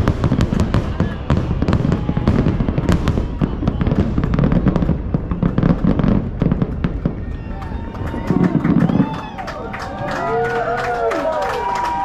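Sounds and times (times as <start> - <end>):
fireworks bangs and crackles: 0.0 - 10.8.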